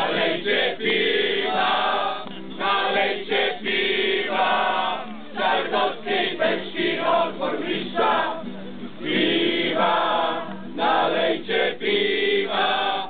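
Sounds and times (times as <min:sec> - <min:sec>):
crowd singing a drinking song: 0:00.0 - 0:13.0.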